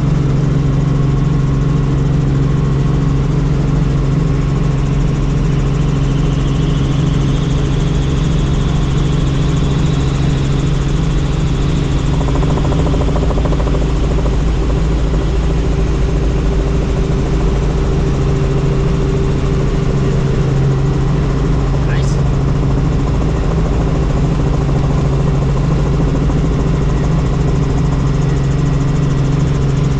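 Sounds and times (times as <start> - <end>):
helicopter engine and rotor drone: 0.0 - 29.9.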